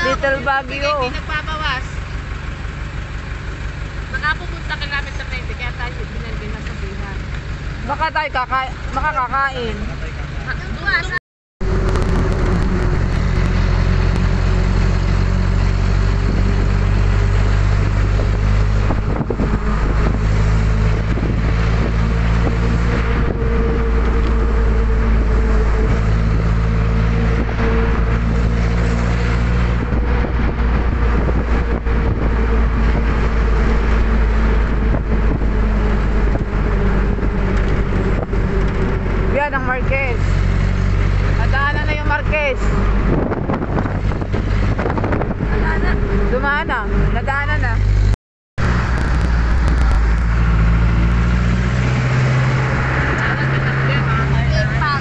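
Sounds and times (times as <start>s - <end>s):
engine and road noise inside car: 0.0s - 55.0s.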